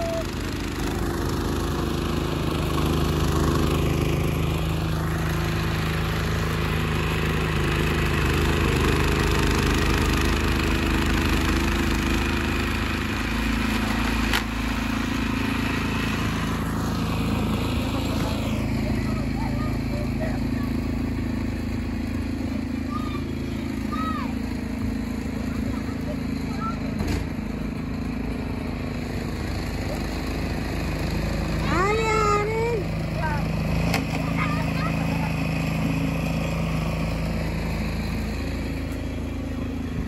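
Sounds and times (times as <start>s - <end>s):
snowblower engine running: 0.0s - 40.0s.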